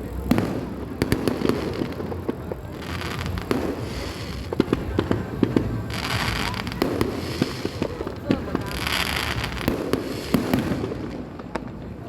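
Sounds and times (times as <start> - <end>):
fireworks hissing crackle: 0.0 - 12.0
fireworks pops and bangs: 0.0 - 12.0.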